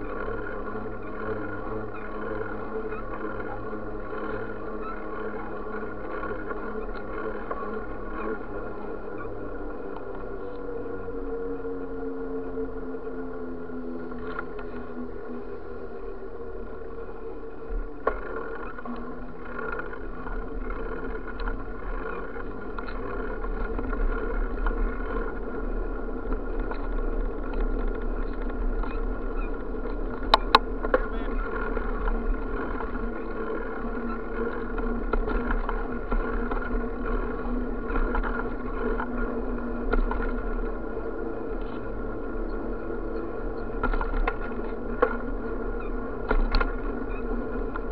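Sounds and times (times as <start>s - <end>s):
bicycle tyres rolling on asphalt: 0.0s - 47.9s.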